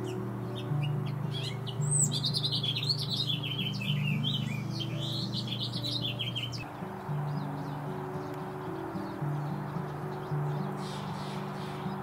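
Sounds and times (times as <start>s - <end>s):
soft background music: 0.0s - 12.0s
songbird singing: 0.0s - 12.0s.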